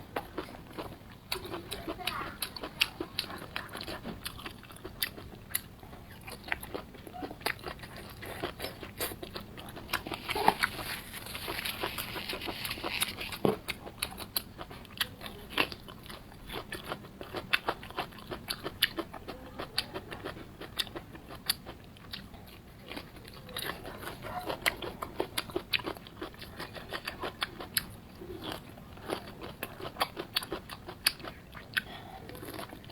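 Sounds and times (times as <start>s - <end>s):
person chewing crispy food: 0.0s - 32.9s.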